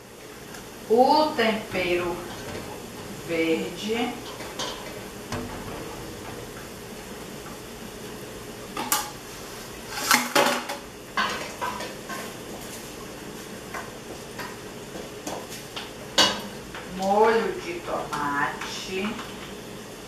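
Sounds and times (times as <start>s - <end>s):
faint sizzle: 0.0s - 20.0s.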